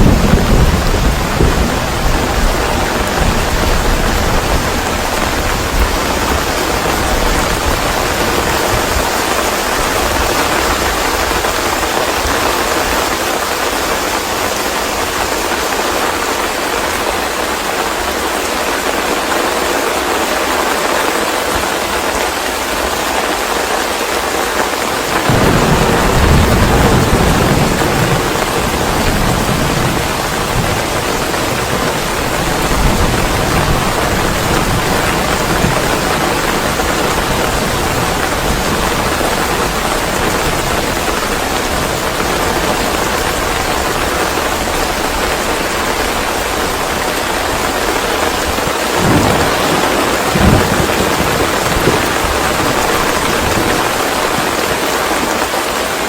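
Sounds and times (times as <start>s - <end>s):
thunder rumbling: 0.0s - 15.3s, 25.0s - 55.3s
steady rain: 0.0s - 56.0s.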